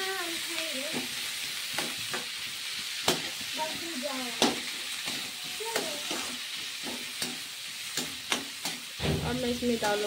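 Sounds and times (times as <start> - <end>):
vegetables sizzling in pan: 0.0 - 10.0.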